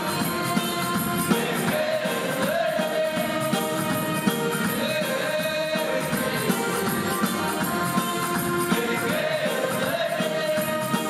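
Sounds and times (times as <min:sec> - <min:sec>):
choir singing a hymn: 0:00.0 - 0:11.0
percussion beat: 0:00.0 - 0:11.0.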